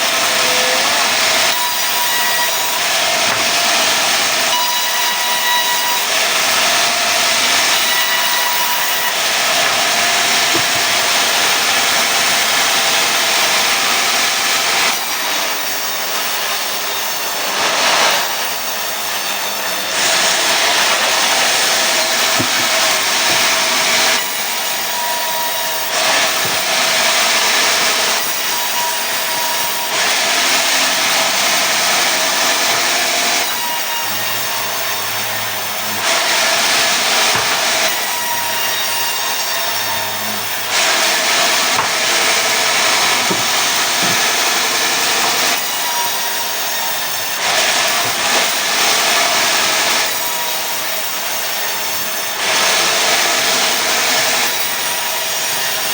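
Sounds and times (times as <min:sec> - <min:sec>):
sawmill saw cutting wood: 0:00.0 - 0:55.9.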